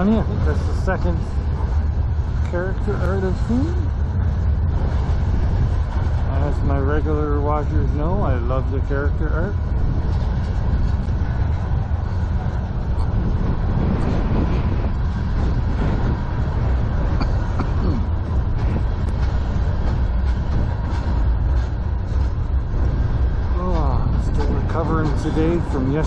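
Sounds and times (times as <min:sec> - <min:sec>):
freight train wheels rumbling on rail: 0:00.0 - 0:26.0.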